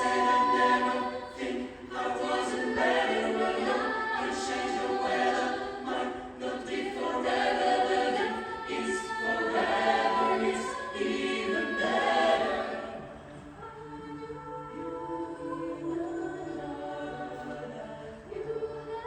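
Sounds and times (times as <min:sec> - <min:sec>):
a cappella choir singing: 0:00.0 - 0:19.0.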